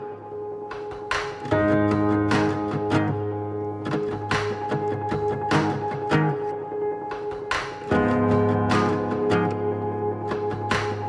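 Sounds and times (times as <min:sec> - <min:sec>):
plucked notes over held tones: 0:00.0 - 0:11.0.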